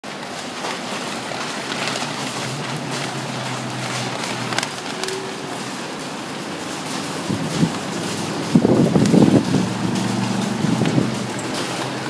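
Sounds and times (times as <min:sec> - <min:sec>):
hailstones pelting building: 0:00.0 - 0:12.0.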